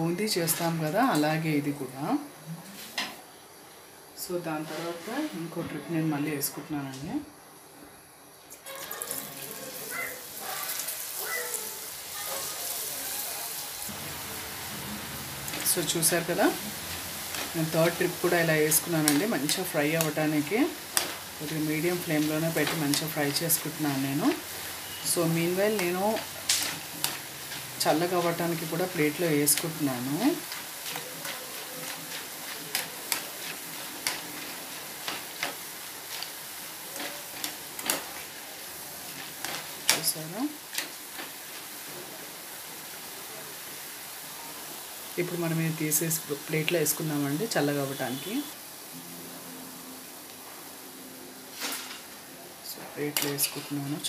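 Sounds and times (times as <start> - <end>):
batter frying in hot oil: 8.2 - 49.0, 51.4 - 54.0.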